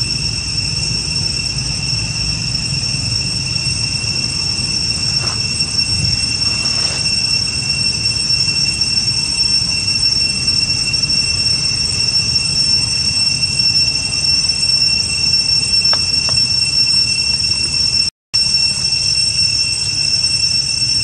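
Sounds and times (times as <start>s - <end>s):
cicadas droning: 0.0s - 21.0s.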